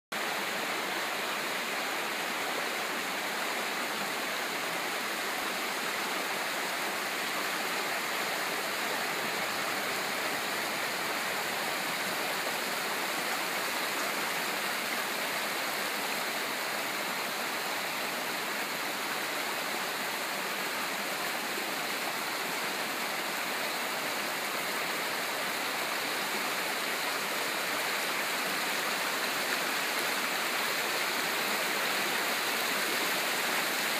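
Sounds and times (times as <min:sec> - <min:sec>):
creek water running over rocks: 0:00.1 - 0:33.9.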